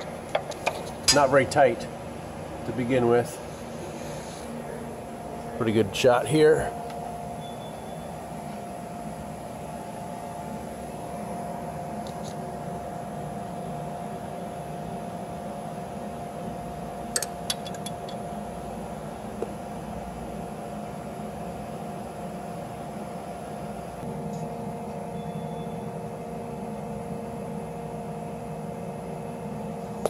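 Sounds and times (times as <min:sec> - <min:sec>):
workshop hum: 0:00.0 - 0:30.0.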